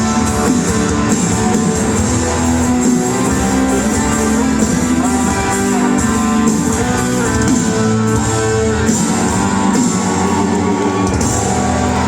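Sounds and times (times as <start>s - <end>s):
rock band over sound system: 0.0s - 12.0s
strummed guitar: 0.0s - 12.0s.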